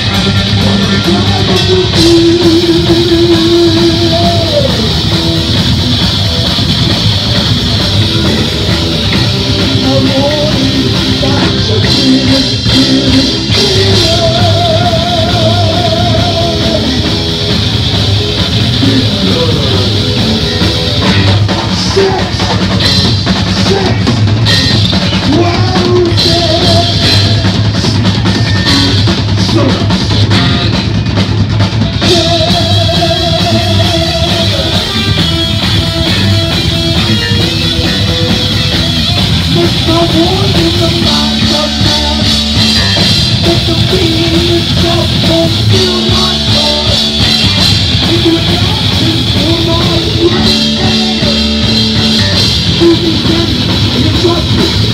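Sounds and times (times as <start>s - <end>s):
person singing: 0.0s - 5.6s, 6.4s - 24.2s, 25.0s - 30.0s, 32.0s - 54.9s
heavy metal band playing live: 0.0s - 54.9s.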